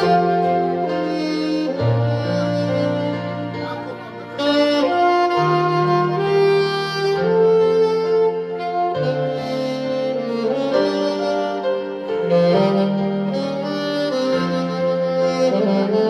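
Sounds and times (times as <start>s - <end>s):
saxophone slow melody: 0.0s - 16.0s.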